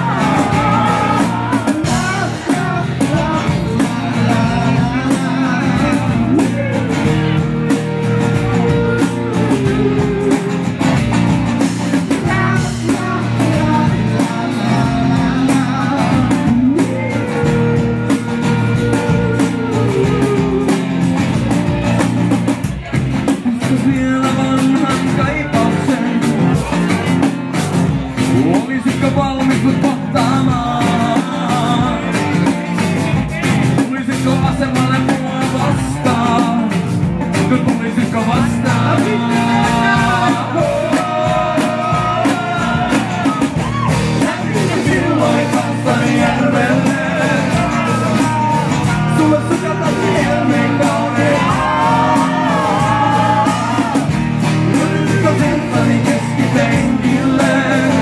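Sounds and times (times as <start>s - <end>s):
strummed acoustic guitars: 0.0s - 58.0s
voices singing: 0.0s - 58.0s.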